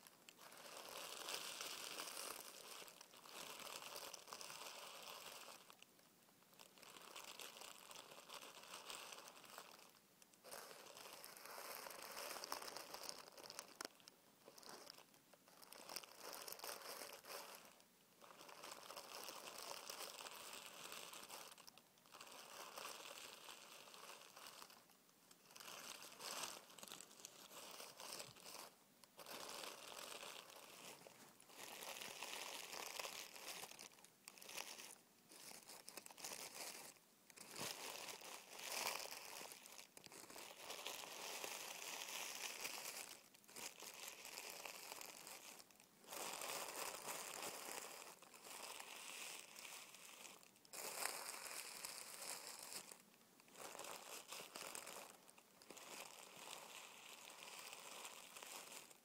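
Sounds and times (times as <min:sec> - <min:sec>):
tissue paper rustling and crackling: 0:00.0 - 0:05.9, 0:06.6 - 0:59.0.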